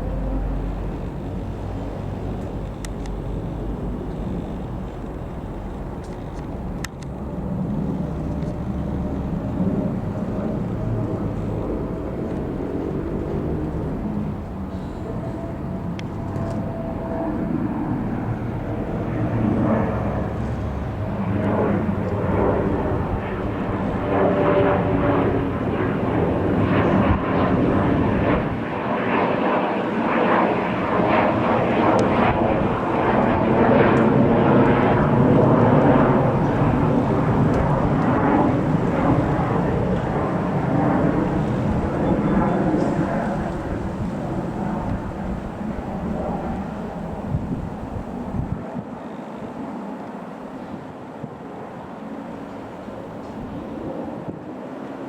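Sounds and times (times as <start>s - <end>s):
jet flying past: 0.0s - 55.0s.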